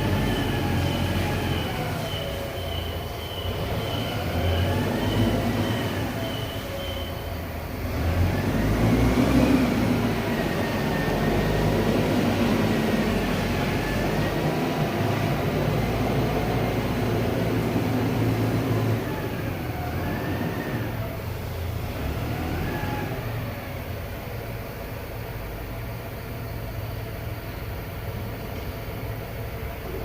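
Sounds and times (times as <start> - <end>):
forklift truck running: 0.0 - 30.0.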